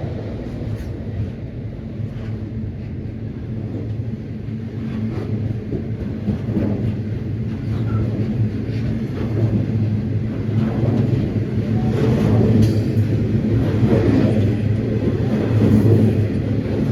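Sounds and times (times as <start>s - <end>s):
diesel locomotive engine drone: 0.0s - 16.9s.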